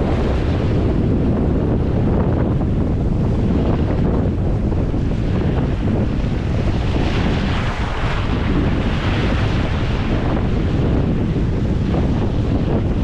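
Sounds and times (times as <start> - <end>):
surf waves washing in: 0.0 - 13.0
wind buffeting microphone: 0.0 - 13.0.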